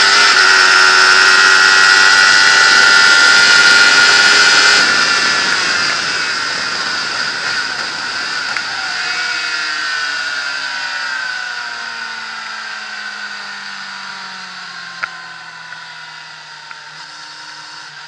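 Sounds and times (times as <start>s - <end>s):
racing engine slowing down: 0.0s - 18.0s.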